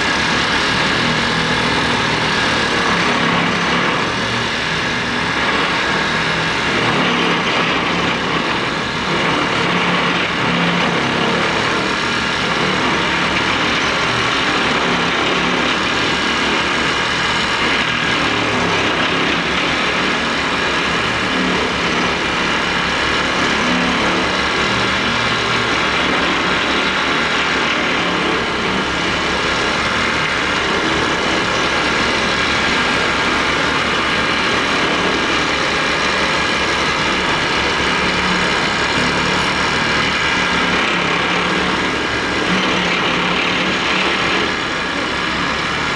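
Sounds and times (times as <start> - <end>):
excavator engine: 0.0 - 45.9
vibratory pile driver running: 0.0 - 45.9.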